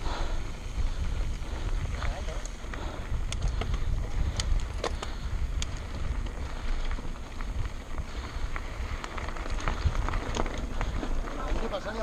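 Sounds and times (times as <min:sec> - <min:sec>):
stones and bike rattling: 0:00.0 - 0:12.0
tyres crunching over gravel: 0:00.0 - 0:12.0
wind rumbling on microphone: 0:00.0 - 0:12.0.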